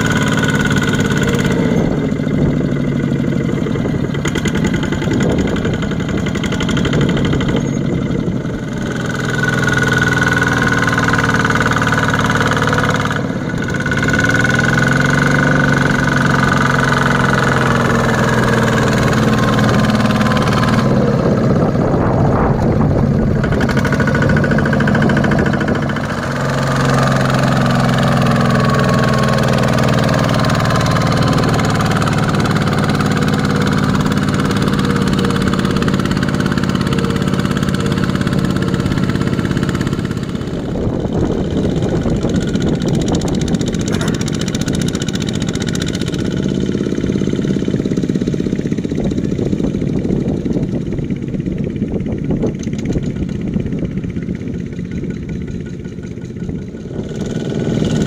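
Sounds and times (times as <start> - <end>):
diesel tractor engine straining: 0.0 - 58.0.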